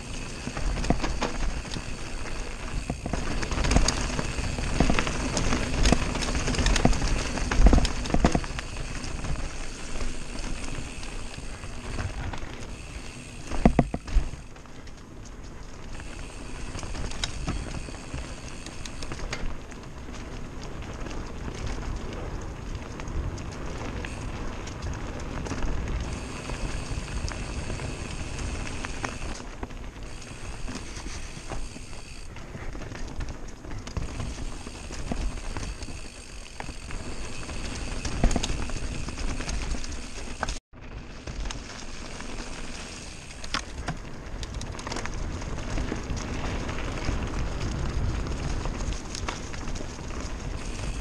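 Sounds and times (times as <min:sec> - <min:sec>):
bike rattling and knocking: 0:00.0 - 0:51.0
tyres rumbling over dirt: 0:00.0 - 0:51.0.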